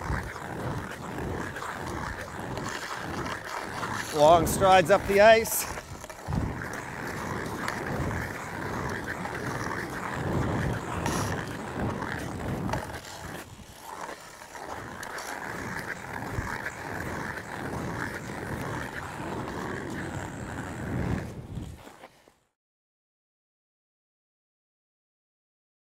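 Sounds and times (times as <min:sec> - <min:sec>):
skate blades scraping on ice: 0:00.0 - 0:22.6.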